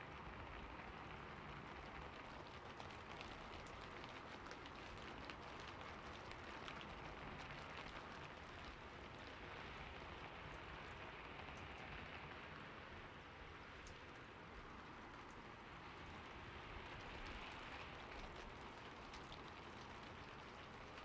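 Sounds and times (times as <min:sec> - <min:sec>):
rain falling on a roof: 0:00.0 - 0:21.0.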